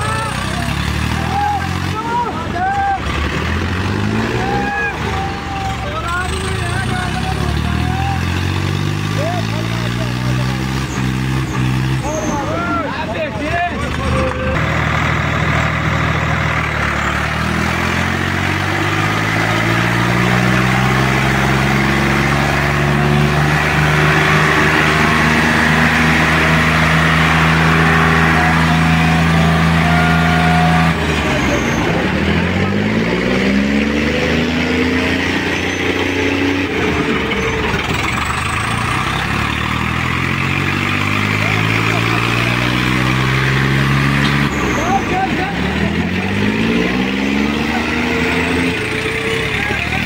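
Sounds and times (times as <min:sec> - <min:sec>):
tractor diesel engine revving: 0:00.0 - 0:50.0.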